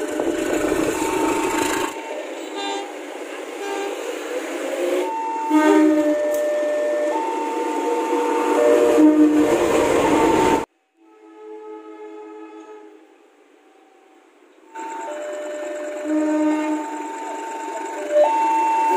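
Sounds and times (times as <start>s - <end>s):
diesel locomotive air horn blasts: 0.0s - 13.3s, 14.8s - 18.9s.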